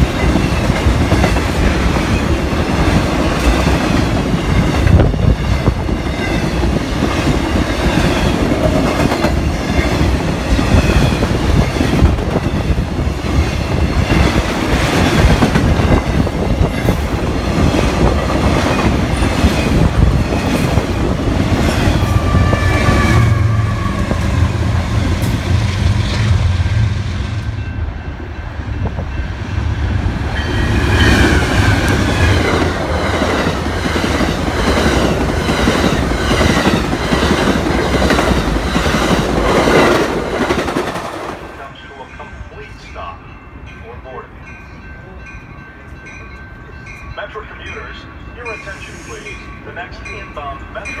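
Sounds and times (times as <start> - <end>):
diesel locomotive engine drone: 0.0 - 51.0.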